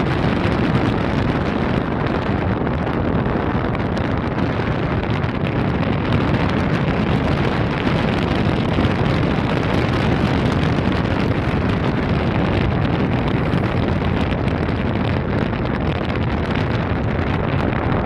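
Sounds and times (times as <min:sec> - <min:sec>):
boat engine running: 0:00.0 - 0:18.0
water noise: 0:00.0 - 0:18.0
wind rumble on microphone: 0:00.0 - 0:18.0.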